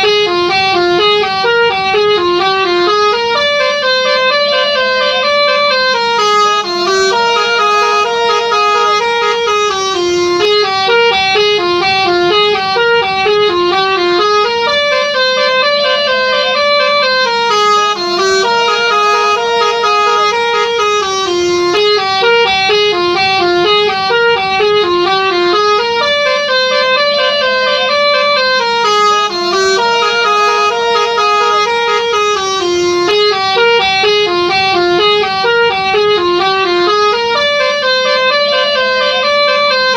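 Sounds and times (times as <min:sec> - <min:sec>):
multi-tone bus horn melody: 0:00.0 - 0:39.9.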